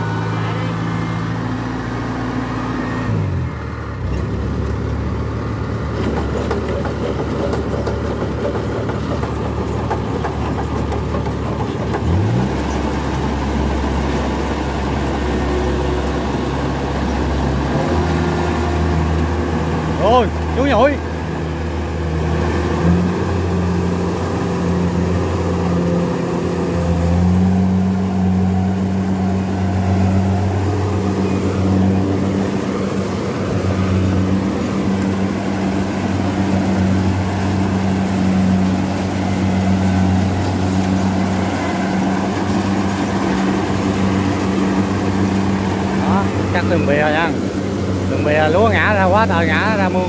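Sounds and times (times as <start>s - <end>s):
combine harvester diesel engine: 0.0s - 50.0s.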